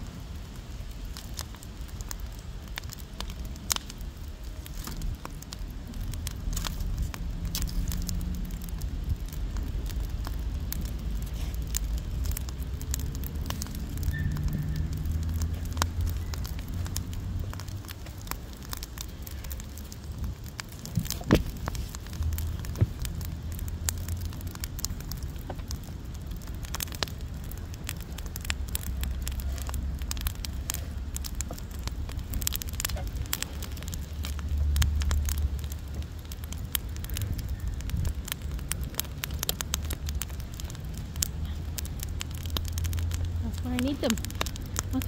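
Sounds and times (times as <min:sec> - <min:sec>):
wood fire crackling: 0:00.0 - 0:45.0
sharp pops of fire: 0:01.0 - 0:45.0
low rumble: 0:02.8 - 0:45.0.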